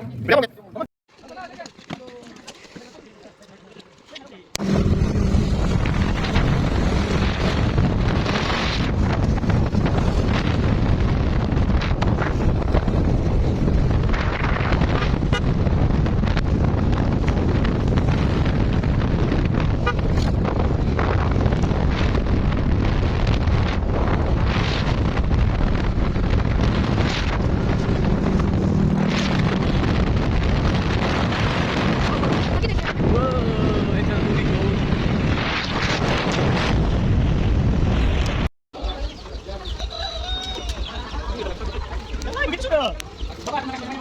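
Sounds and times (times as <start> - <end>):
moving vehicle rumble: 4.5 - 44.0
wind buffeting microphone: 4.6 - 44.0.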